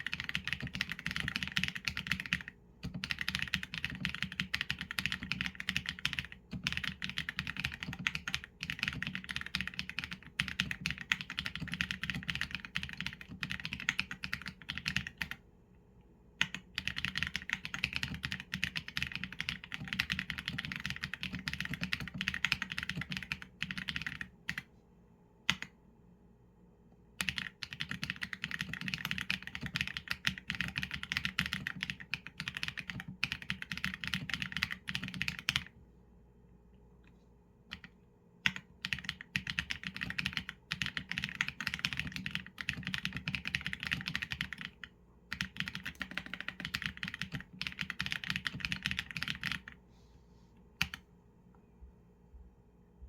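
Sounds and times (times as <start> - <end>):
mechanical keyboard typing: 0.0 - 15.4, 16.4 - 24.7, 27.2 - 35.7, 37.7 - 49.8, 50.8 - 51.0.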